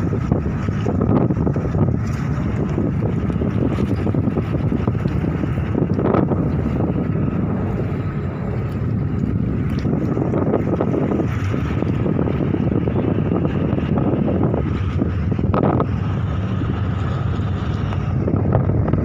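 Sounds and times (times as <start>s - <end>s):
ferry engines rumbling: 0.0s - 19.0s
wind buffeting microphone: 0.0s - 19.0s.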